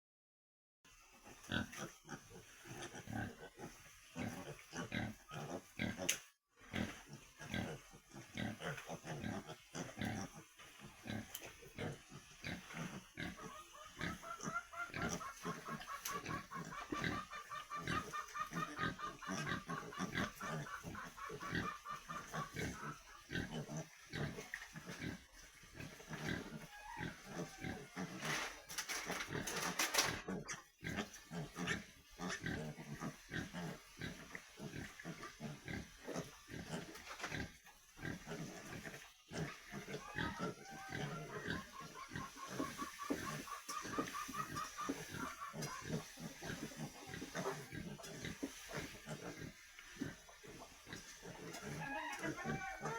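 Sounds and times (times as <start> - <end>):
pigs grunting: 0.9 - 52.9.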